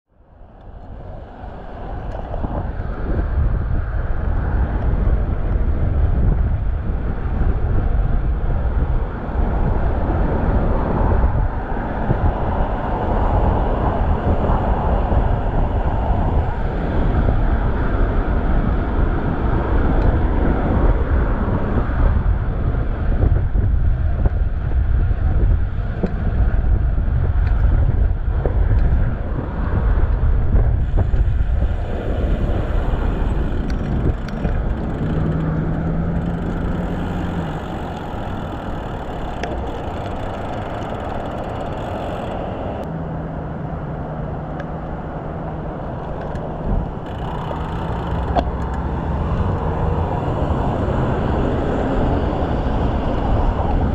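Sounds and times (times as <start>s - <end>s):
road traffic passing: 0.1s - 53.9s
wind buffeting microphone: 0.1s - 53.9s.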